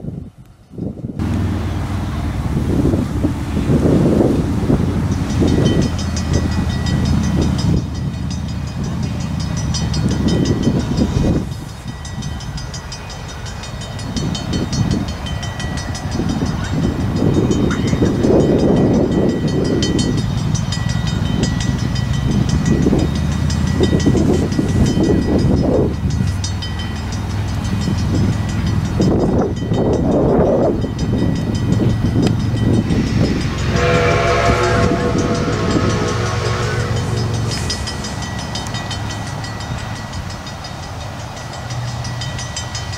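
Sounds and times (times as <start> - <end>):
steam locomotive chuffing: 1.2 - 42.9
fast metallic ringing: 5.1 - 42.9.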